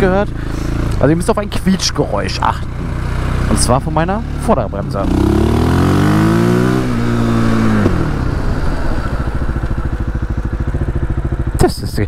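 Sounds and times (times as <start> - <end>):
quad engine revving and idling: 0.0 - 12.0.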